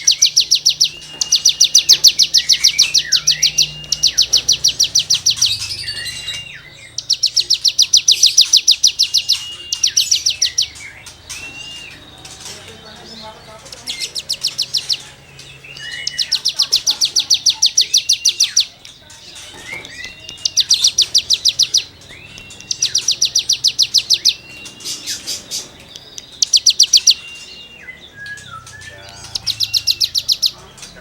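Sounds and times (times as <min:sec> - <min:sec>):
songbird rapid scratchy notes: 0:00.0 - 0:27.5, 0:28.3 - 0:31.0.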